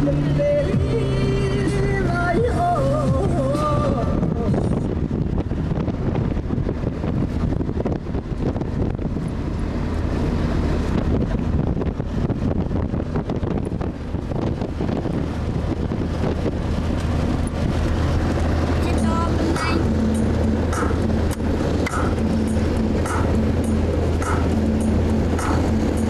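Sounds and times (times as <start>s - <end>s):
van engine and road rumble: 0.0s - 26.0s
wind buffeting microphone: 0.0s - 26.0s.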